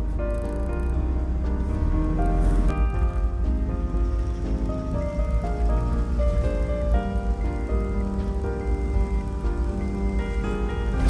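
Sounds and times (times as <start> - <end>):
music of held notes: 0.0 - 11.0
steady low rumble: 0.0 - 11.0.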